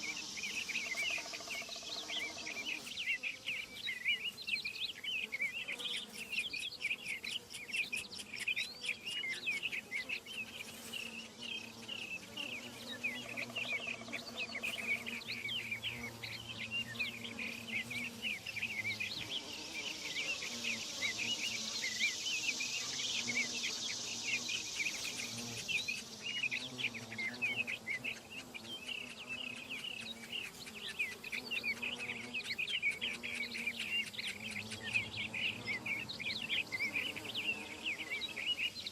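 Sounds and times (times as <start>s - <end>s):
high insect drone: 0.0s - 38.9s
small birds chirping: 0.0s - 38.9s.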